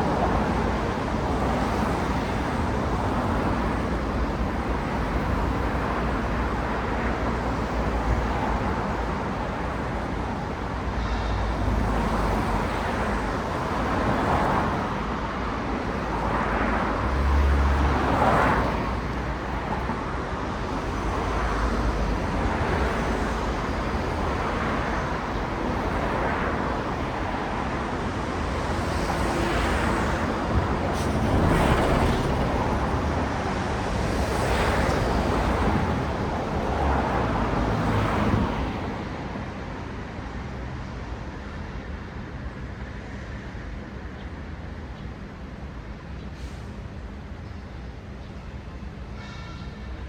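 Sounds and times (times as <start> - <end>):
cars passing: 0.0 - 44.8
steady traffic hum: 0.0 - 50.0.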